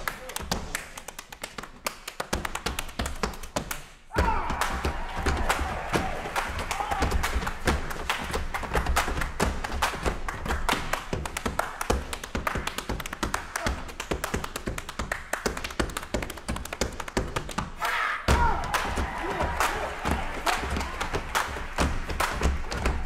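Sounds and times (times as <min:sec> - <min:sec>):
hands clapping: 0:00.0 - 0:23.0.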